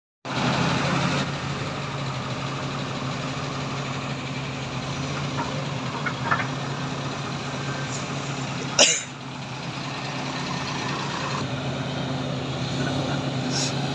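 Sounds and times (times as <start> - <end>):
diesel truck engine idling: 0.3 - 13.9.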